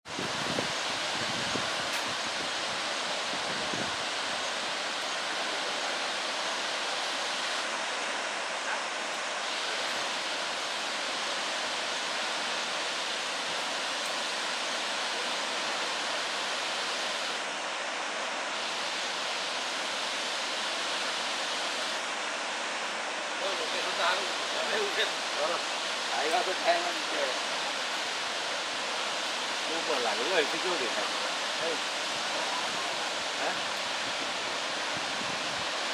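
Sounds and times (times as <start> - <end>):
waterfall rushing into pool: 0.0 - 35.9.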